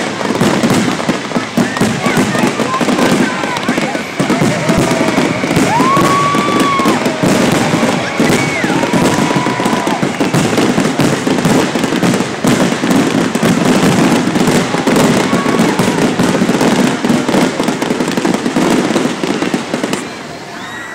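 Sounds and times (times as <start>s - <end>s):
fireworks bursting and crackling: 0.0s - 20.9s.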